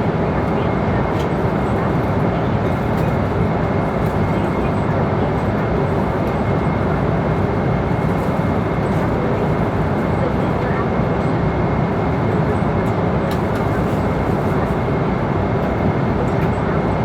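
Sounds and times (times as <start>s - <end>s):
airliner cabin airflow and engines: 0.0s - 17.0s.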